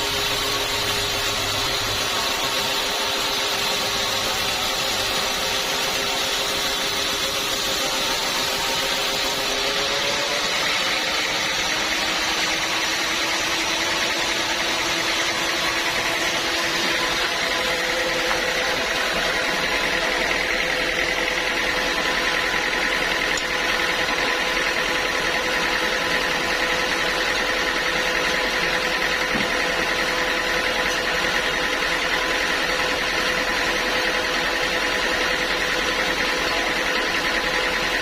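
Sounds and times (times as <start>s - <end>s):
saw machinery whine: 0.0s - 38.0s.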